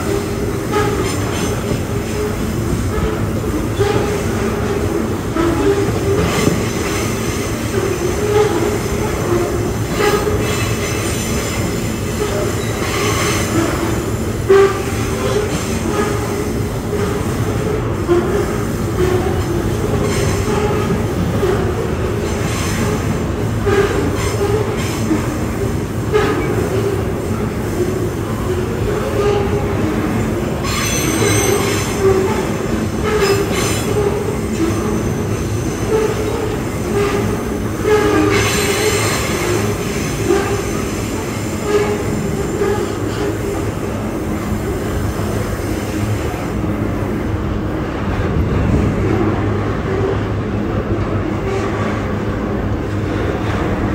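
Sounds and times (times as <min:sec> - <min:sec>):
freight train rumbling by: 0:00.0 - 0:53.9.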